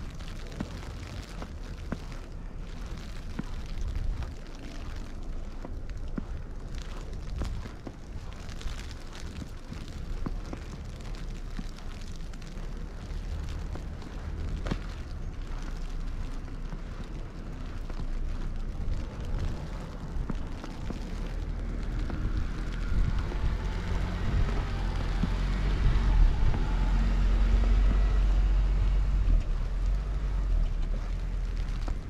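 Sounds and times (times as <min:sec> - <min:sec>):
car passing: 0:00.0 - 0:32.0
wind rumbling on microphone: 0:00.0 - 0:32.0.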